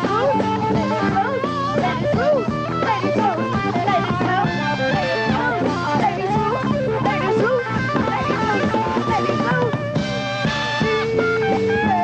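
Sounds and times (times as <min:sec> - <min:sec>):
bass: 0:00.0 - 0:12.0
drums: 0:00.0 - 0:12.0
electric guitar lines: 0:00.0 - 0:12.0.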